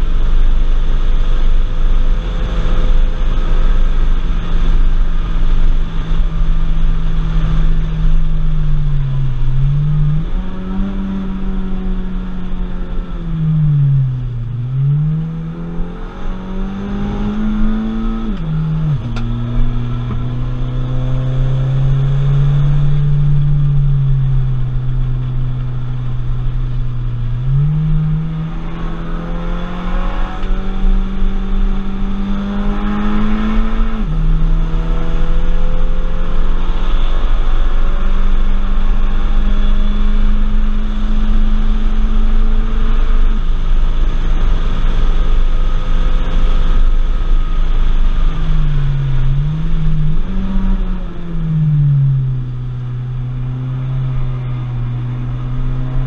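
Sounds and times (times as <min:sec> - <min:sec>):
car engine pulling hard: 0:00.0 - 0:56.0
road and wind noise: 0:00.0 - 0:56.0.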